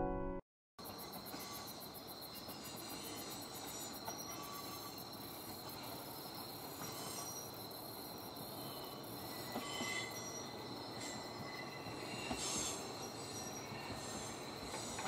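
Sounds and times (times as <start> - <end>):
crickets chirring: 0.8 - 15.0.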